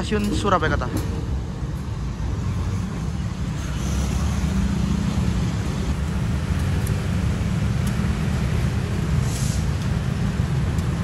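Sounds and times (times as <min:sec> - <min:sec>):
locomotive rumbling: 0:00.0 - 0:11.0.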